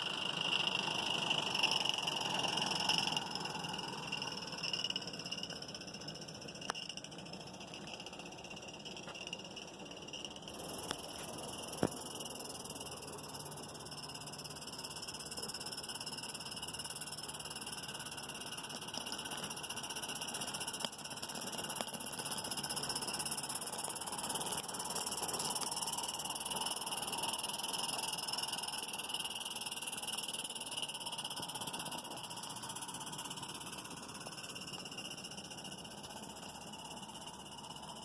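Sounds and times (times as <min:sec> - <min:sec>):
faint miniature steam train running: 0:00.0 - 0:38.0.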